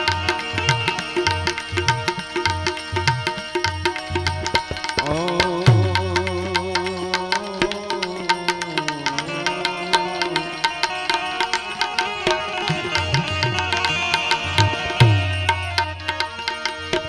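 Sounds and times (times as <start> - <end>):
sustained harmonium notes: 0.0 - 17.0
tabla playing a rhythm: 0.0 - 17.0.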